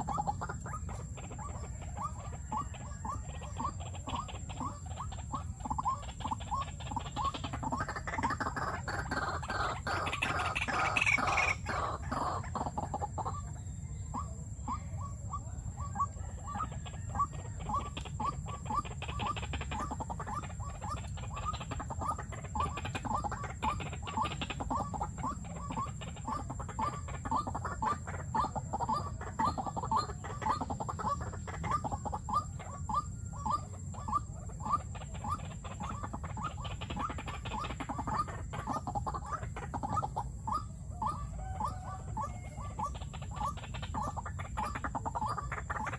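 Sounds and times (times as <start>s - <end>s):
waterhen calling repeated notes: 0.0s - 45.9s.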